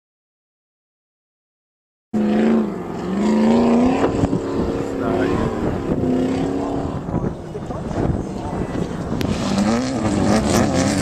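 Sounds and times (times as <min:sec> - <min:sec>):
vehicle engine revving: 0:02.2 - 0:11.0.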